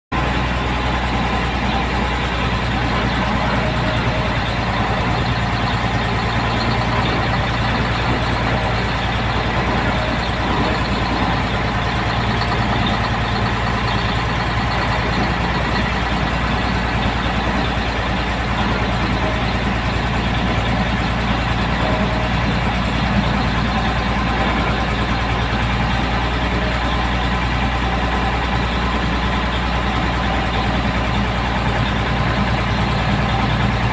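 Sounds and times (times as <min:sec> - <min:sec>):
truck engine running: 0:00.1 - 0:33.9.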